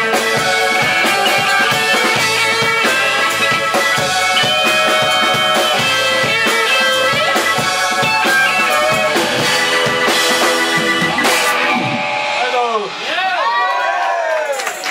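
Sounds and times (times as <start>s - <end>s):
live jazz-rock band: 0.0s - 13.1s.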